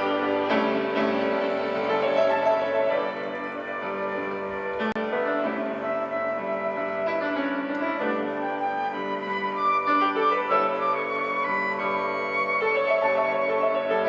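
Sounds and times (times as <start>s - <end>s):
flute melody: 0.0s - 14.0s
piano accompaniment: 0.0s - 14.0s
sustained string and woodwind notes: 0.0s - 14.0s.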